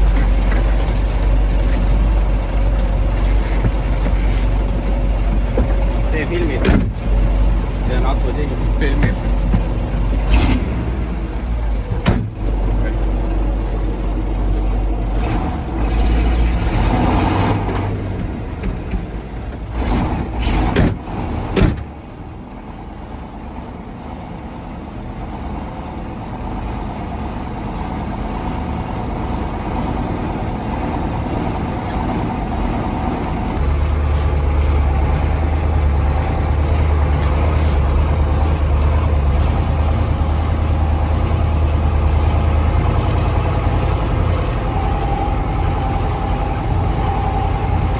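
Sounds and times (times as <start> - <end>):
truck diesel engine running: 0.0 - 47.9.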